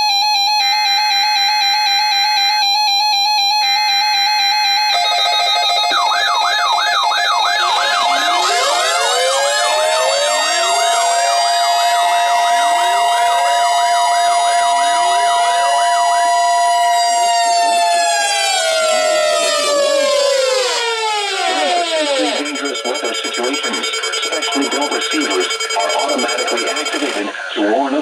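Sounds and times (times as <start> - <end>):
fast siren-like whoops: 0.0 - 22.9
steady high tones: 3.5 - 27.4.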